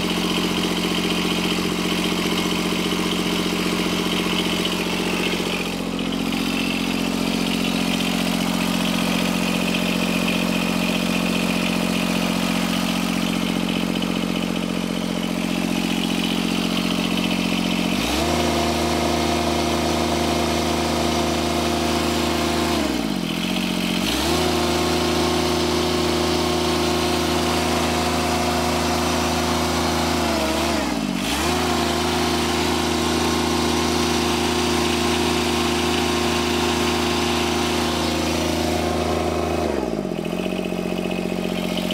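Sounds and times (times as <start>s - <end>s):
mower diesel engine running: 0.0s - 41.9s.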